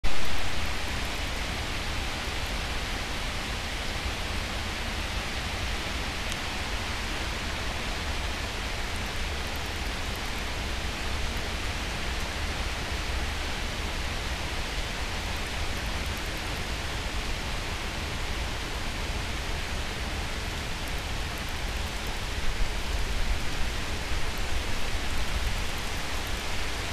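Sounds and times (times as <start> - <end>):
heavy rain hissing: 0.0 - 26.9.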